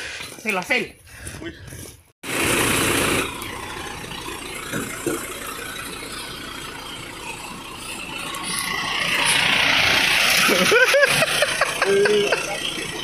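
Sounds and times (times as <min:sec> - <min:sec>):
vehicle engine running: 0:02.2 - 0:13.0.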